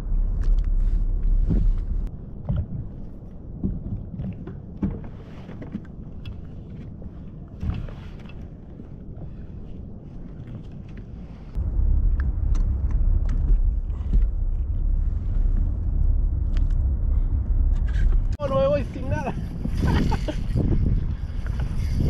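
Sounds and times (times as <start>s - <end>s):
water washing against hull: 0.0s - 22.0s.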